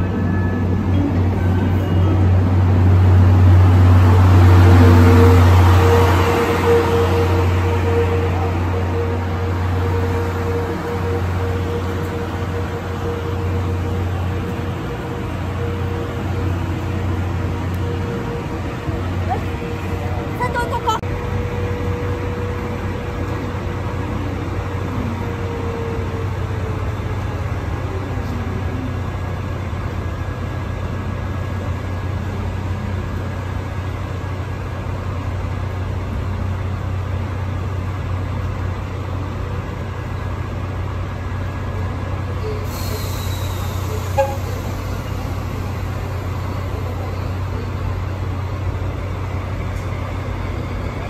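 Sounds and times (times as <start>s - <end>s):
diesel locomotive idling: 0.0s - 51.0s.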